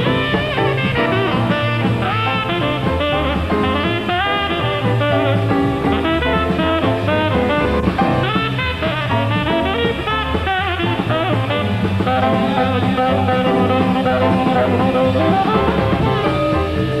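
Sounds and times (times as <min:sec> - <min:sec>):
swing jazz band playing: 0:00.0 - 0:17.0.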